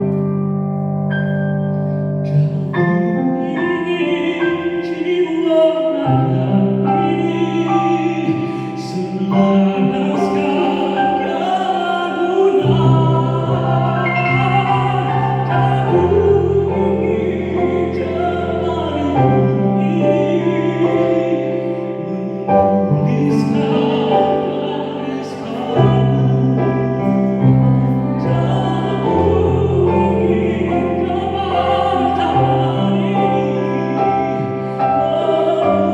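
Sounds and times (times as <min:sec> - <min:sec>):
instrumental chord accompaniment: 0:00.0 - 0:35.9
man singing operatically: 0:02.2 - 0:35.9.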